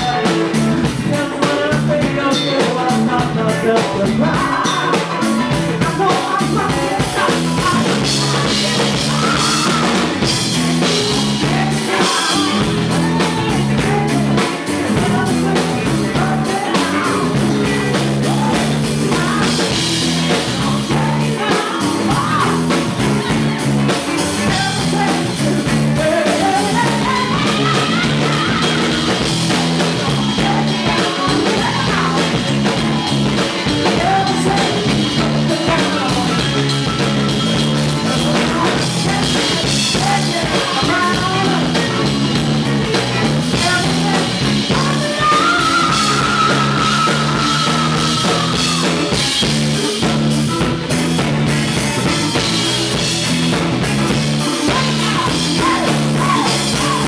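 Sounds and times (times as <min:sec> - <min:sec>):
woman singing: 0:00.0 - 0:37.0, 0:37.6 - 0:50.0, 0:54.4 - 0:57.0
rock band playing: 0:00.0 - 0:57.0.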